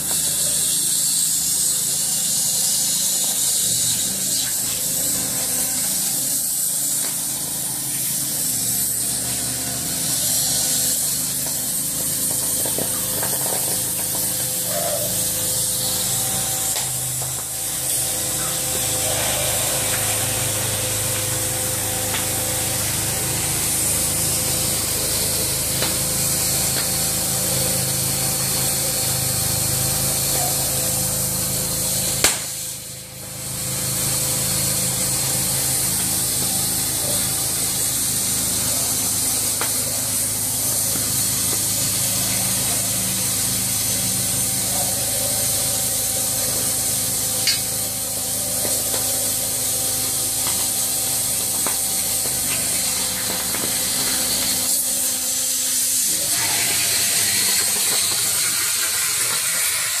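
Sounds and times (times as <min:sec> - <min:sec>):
cutting torch hissing: 0:00.0 - 1:00.0.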